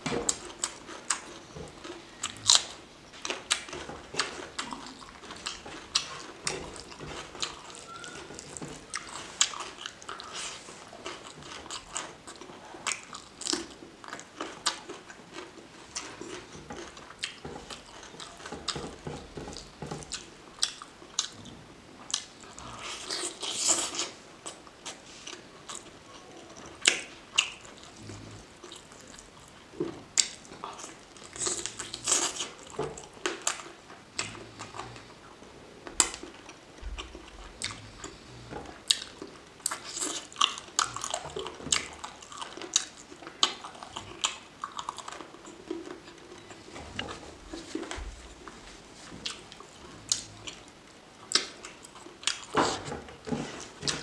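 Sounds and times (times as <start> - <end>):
close chewing and mouth smacks: 0.1 - 54.0.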